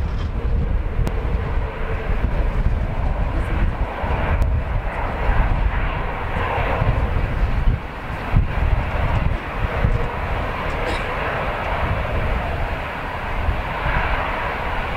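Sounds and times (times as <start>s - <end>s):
jet engine rush: 0.0s - 14.9s
wind buffeting microphone: 0.0s - 14.9s.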